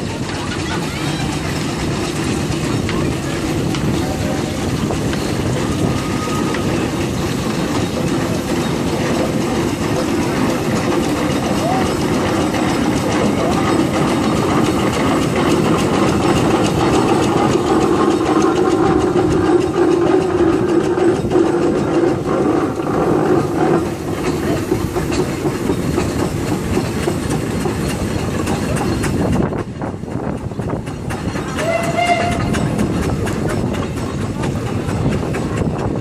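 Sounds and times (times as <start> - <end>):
steam engines rumbling and clattering: 0.0 - 36.0.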